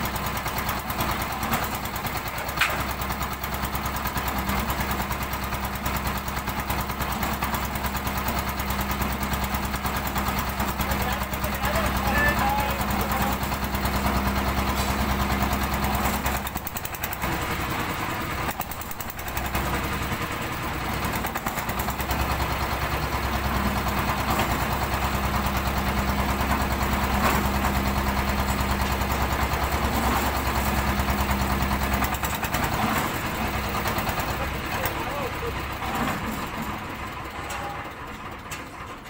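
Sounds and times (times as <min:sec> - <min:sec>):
concrete mixer engine chugging: 0:00.0 - 0:39.0.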